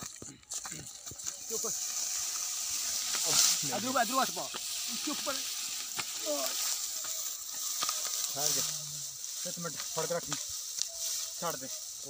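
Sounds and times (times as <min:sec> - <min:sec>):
dry straw crackling and rustling: 0:00.0 - 0:12.0.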